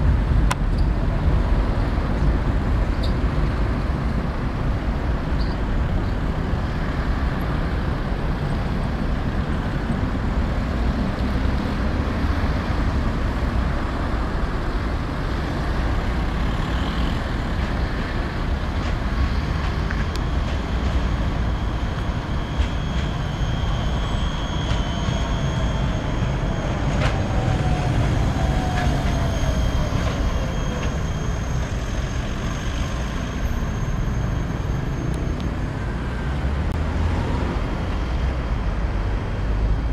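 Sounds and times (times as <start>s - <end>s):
traffic rumble: 0.0s - 39.9s
tram electric drive whine: 0.0s - 39.9s
trams running on track: 0.0s - 39.9s.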